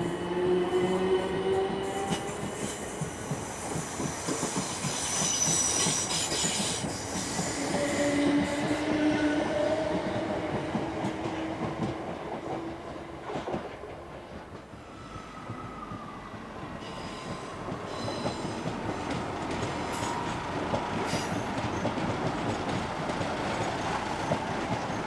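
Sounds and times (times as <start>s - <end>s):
train wheels clattering: 0.7s - 14.7s, 17.0s - 25.0s.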